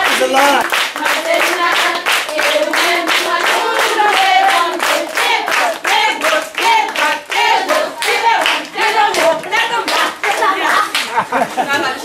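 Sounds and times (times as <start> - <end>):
rhythmic hand clapping: 0.0 - 11.6
children singing: 1.0 - 11.0.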